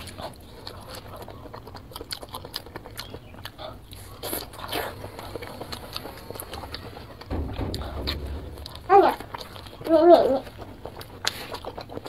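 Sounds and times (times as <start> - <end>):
biting and chewing pepper: 0.0 - 12.0.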